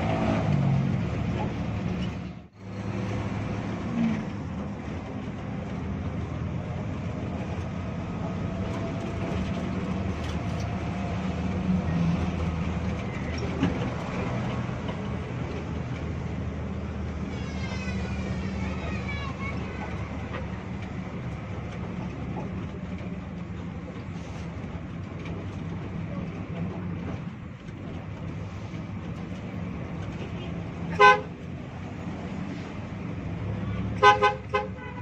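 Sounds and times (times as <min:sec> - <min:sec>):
bus diesel engine running: 0:00.0 - 0:35.0
road noise: 0:00.0 - 0:35.0.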